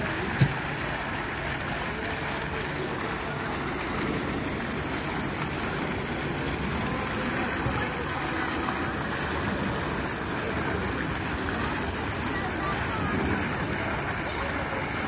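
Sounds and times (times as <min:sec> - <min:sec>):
crowd hubbub: 0:00.0 - 0:15.0.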